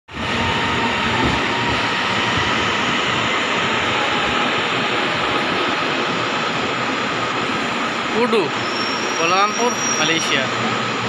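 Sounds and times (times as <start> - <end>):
faint train whine: 0.1 - 11.0
train hiss and rumble: 0.1 - 11.0.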